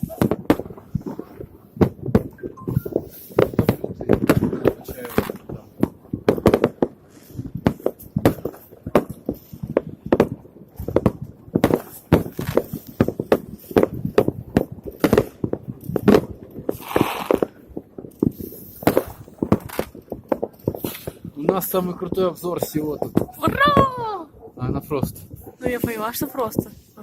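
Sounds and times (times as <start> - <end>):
fireworks hissing burst: 0.0 - 14.4, 15.0 - 23.9
fireworks bangs and pops: 0.0 - 27.0.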